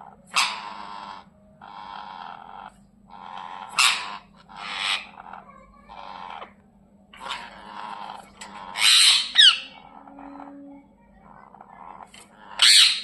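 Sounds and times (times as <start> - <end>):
parrots chattering calls: 0.0 - 6.6, 7.2 - 10.5, 11.2 - 13.0
parrots screeching harshly: 0.3 - 6.5, 7.2 - 10.0, 11.7 - 13.0.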